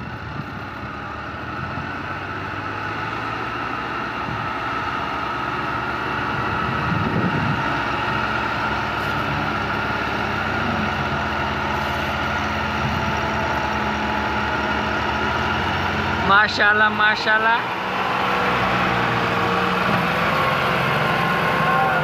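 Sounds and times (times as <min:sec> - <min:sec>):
tractor diesel engines under heavy load: 0:00.0 - 0:22.0.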